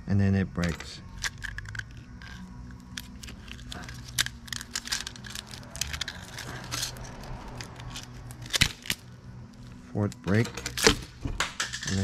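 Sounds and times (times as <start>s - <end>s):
metal spring clicking and scraping: 0.6s - 9.1s, 10.1s - 12.0s.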